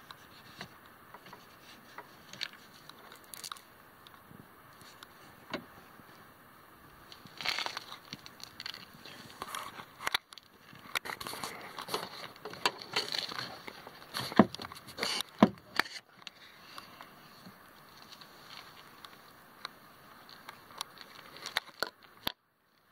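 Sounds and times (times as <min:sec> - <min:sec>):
rustling: 0:00.0 - 0:06.3, 0:07.0 - 0:22.9.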